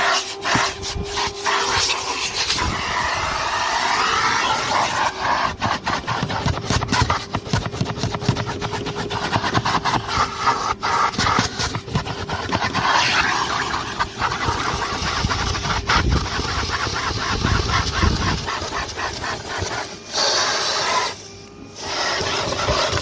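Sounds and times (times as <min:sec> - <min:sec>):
vacuum cleaner motor: 0:00.0 - 0:23.0.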